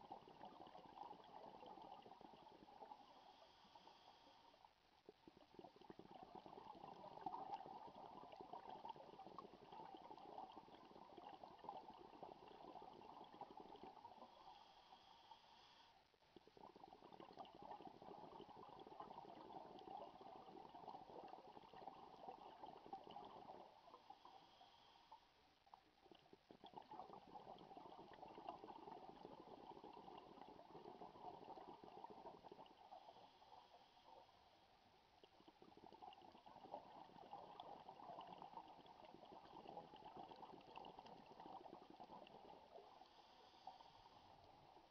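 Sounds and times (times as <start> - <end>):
exhaled bubbles gurgling underwater: 0.0 - 15.1, 16.4 - 24.9, 25.8 - 44.9.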